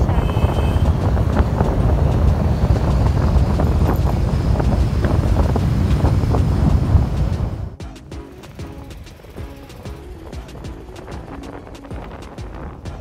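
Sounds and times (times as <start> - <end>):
wind buffeting microphone: 0.0 - 7.8, 9.0 - 13.0.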